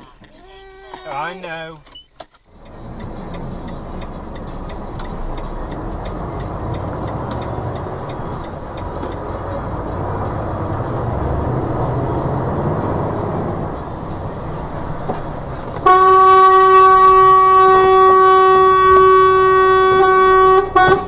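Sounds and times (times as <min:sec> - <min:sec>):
vehicle road and engine noise: 0:00.0 - 0:21.0.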